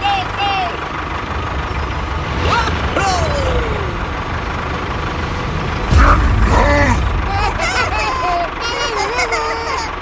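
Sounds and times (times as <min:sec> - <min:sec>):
tractor engine rumble: 0:00.0 - 0:10.0.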